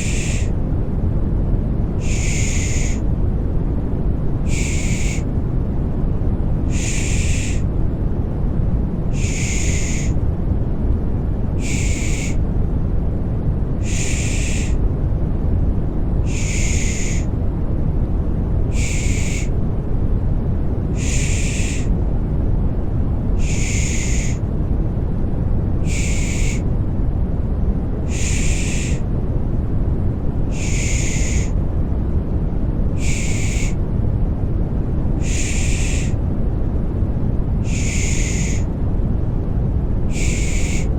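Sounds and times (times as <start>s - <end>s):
deep white noise: 0.0s - 40.9s.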